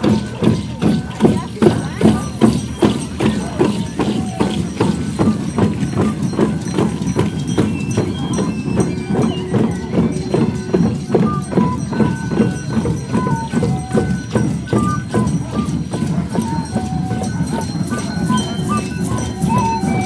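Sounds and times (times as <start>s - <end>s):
hand drums beating: 0.0s - 20.0s.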